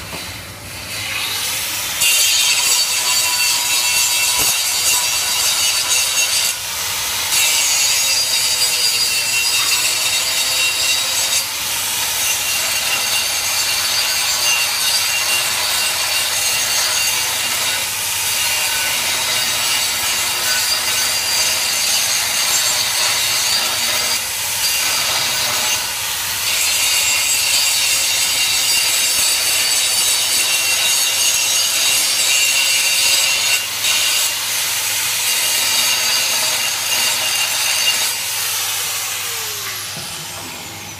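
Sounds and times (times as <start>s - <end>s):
angle grinder grinding steel: 0.3s - 40.9s.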